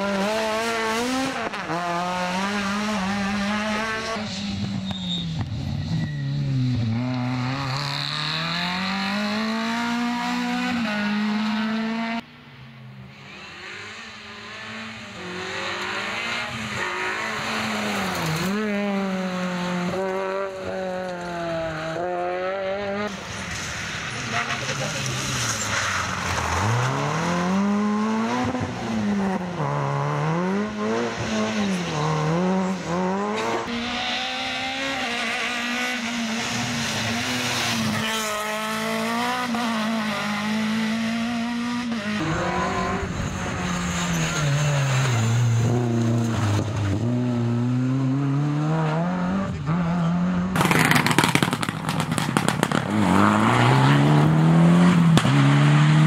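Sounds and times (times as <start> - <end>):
rally car engine revving: 0.0 - 12.2, 13.2 - 56.0
cars braking and accelerating: 0.0 - 56.0.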